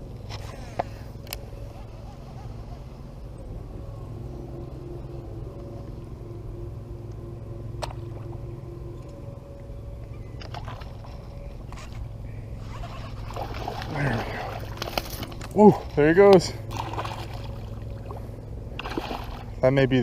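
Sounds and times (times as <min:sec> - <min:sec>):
faint droning hum: 0:00.0 - 0:20.0
low rumble: 0:01.0 - 0:20.0.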